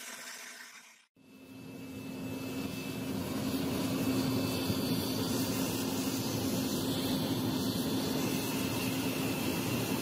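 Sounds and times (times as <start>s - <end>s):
gas burner roaring: 1.2s - 10.0s.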